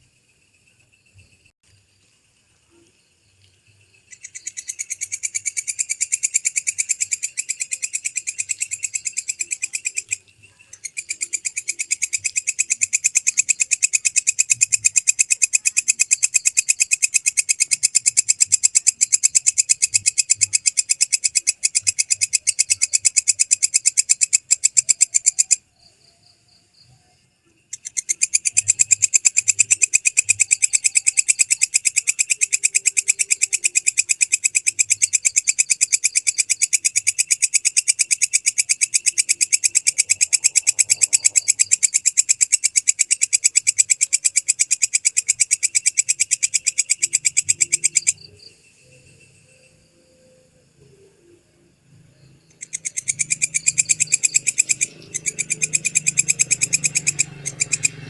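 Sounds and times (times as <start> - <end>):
bush cricket trilling: 0.0 - 58.0.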